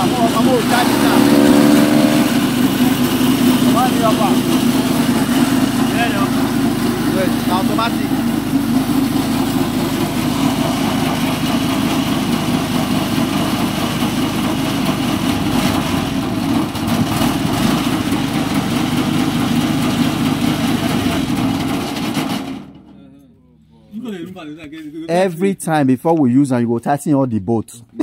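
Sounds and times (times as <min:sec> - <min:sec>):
chaff cutter engine running: 0:00.0 - 0:23.0.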